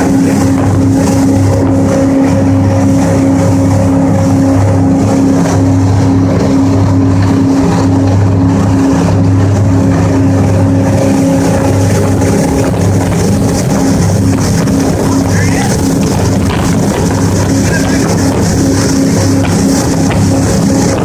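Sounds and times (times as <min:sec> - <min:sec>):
boat engines droning: 0:00.0 - 0:21.0
wind and water rushing: 0:00.0 - 0:21.0.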